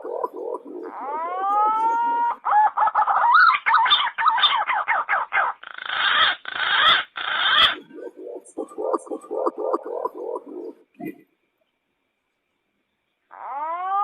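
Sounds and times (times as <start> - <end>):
bird calls: 0.0 - 11.2.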